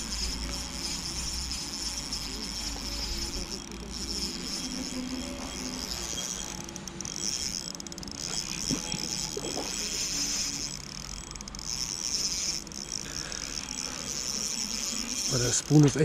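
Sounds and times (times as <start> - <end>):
fishing reel whirring: 0.0 - 16.0.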